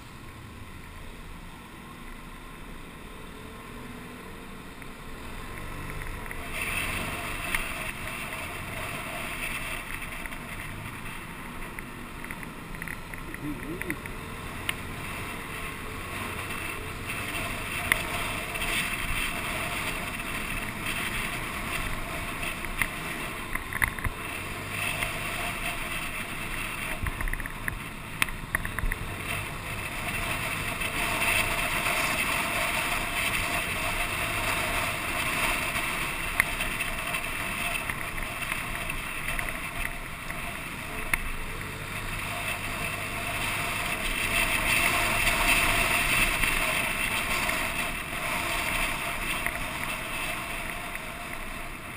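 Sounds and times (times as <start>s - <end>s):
road and traffic noise: 0.0s - 51.9s.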